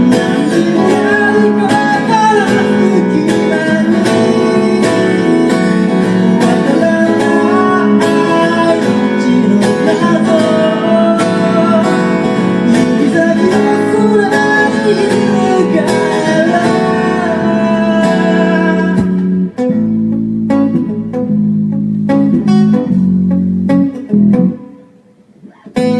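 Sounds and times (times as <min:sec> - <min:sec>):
live band with guitars: 0:00.0 - 0:25.9.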